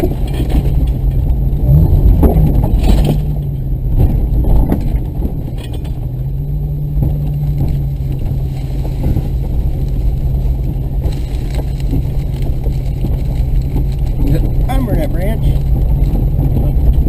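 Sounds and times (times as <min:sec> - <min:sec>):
vehicle knocks over rough ground: 0:00.0 - 0:14.7
off-road vehicle engine rumbling: 0:00.0 - 0:17.0.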